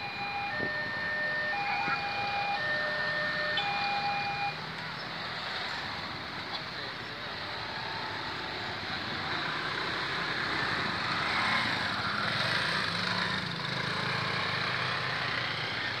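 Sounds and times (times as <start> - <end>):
road traffic: 0.0 - 16.0
motorbikes riding past: 0.2 - 16.0.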